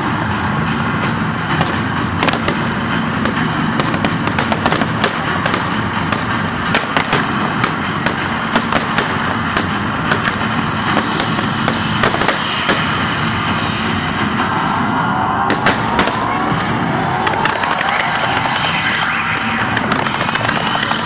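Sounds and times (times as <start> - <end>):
background music: 0.0 - 21.0
fireworks bangs and crackles: 0.1 - 21.0.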